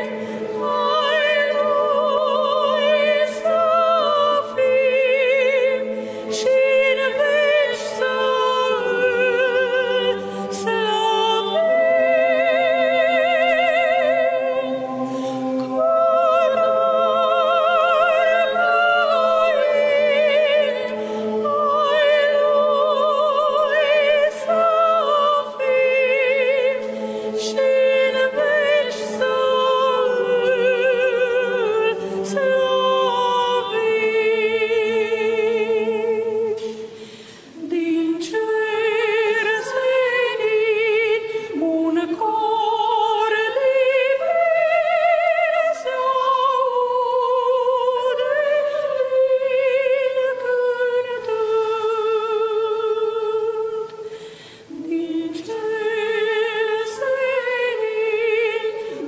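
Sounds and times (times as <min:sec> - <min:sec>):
woman singing with vibrato: 0:00.0 - 0:59.0.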